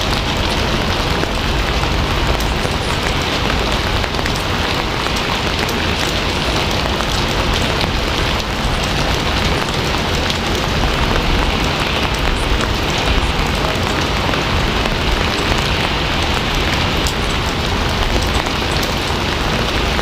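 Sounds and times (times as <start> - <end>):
heavy rain on a surface: 0.0 - 20.0.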